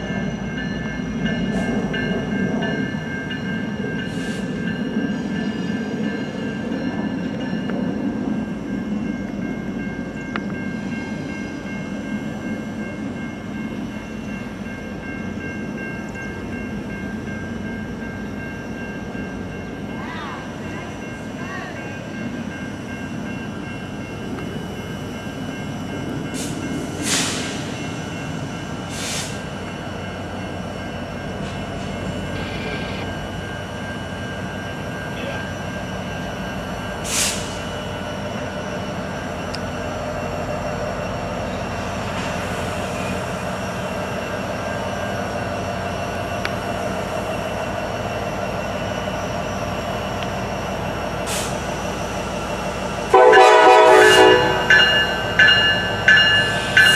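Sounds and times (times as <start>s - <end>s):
freight train rumbling on rails: 0.0s - 56.9s.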